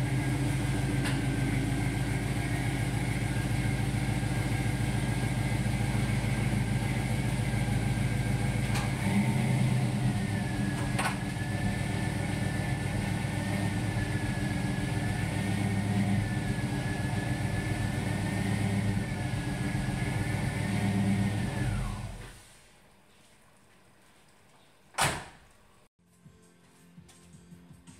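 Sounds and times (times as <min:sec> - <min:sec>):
car engine idling with whine: 0:00.0 - 0:22.4.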